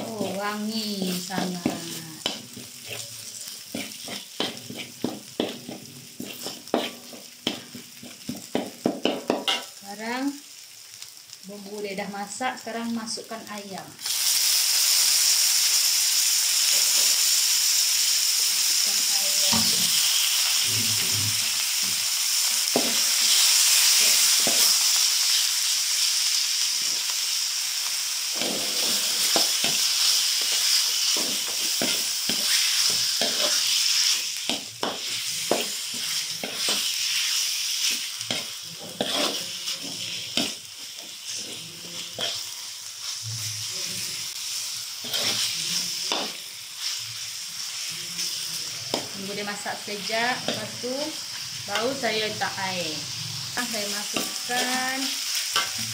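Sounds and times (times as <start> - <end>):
chicken sizzling in hot oil: 0.0 - 55.9.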